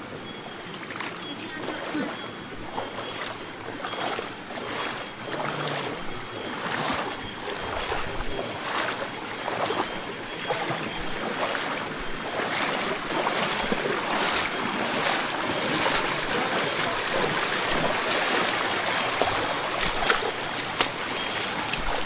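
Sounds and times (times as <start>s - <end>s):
stream water flowing: 0.0s - 22.0s
water splashing from wading: 0.0s - 22.0s.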